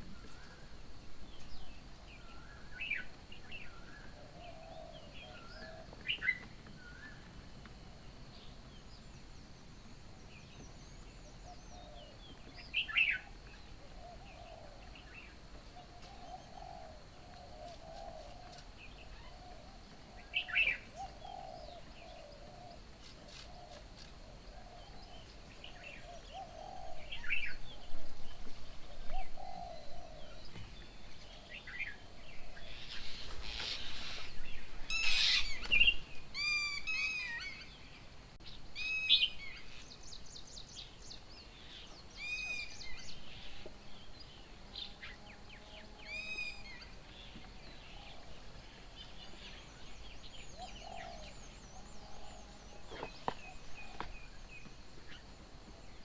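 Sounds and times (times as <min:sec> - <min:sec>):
wild birds chirping and whistling: 0:00.1 - 0:07.3, 0:08.3 - 0:56.0.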